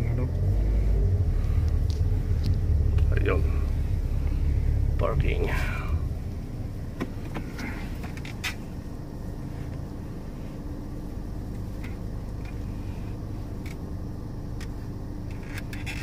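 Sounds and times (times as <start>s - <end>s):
car engine running: 0.0s - 16.0s
faint steady hum: 0.0s - 16.0s.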